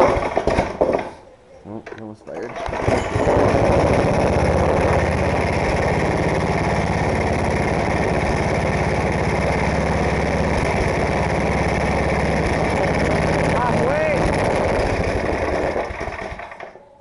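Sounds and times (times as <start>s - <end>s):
snowblower engine fast idle: 0.0s - 0.8s, 2.6s - 16.8s.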